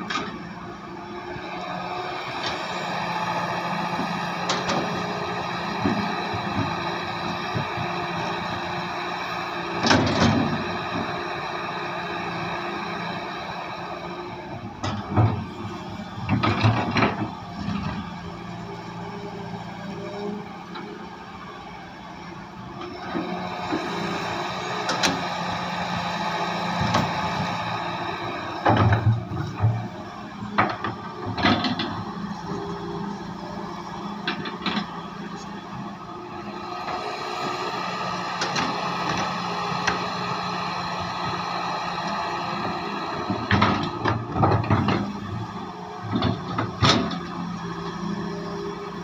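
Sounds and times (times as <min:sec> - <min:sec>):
excavator diesel engine: 0:00.0 - 0:49.0.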